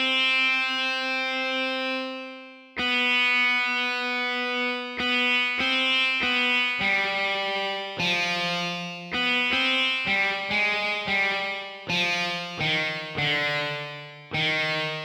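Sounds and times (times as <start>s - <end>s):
distorted electric guitar melody: 0.0s - 15.0s.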